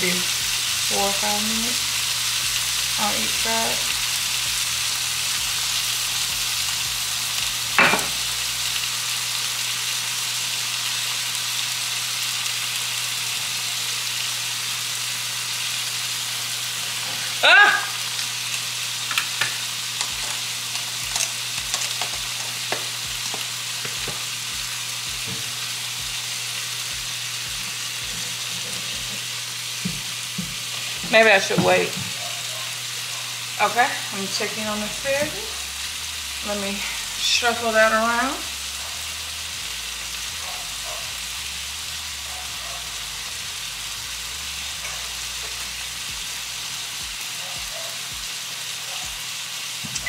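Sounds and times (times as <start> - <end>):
steaks sizzling in a pan: 0.0 - 50.0.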